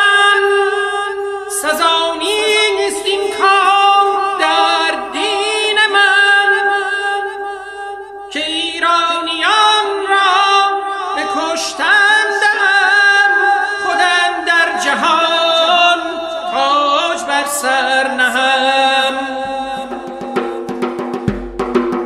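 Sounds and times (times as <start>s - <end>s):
voices singing long notes: 0.0s - 20.9s.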